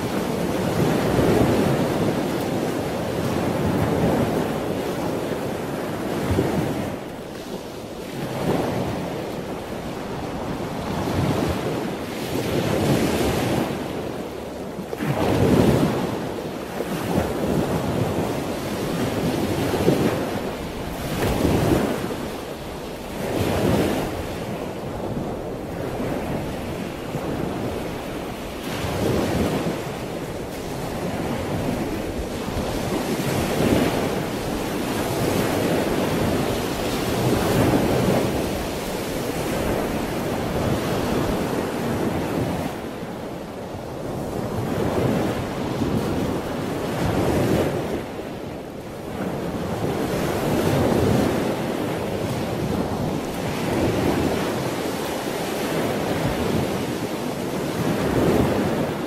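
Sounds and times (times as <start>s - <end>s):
surf washing on rocky shore: 0.0s - 59.0s.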